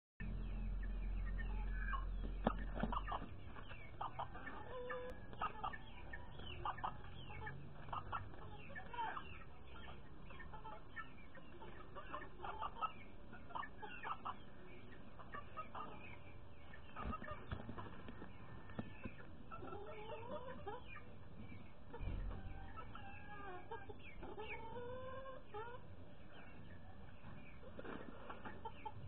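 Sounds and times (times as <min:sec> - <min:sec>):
chickens clucking: 0:00.2 - 0:29.0.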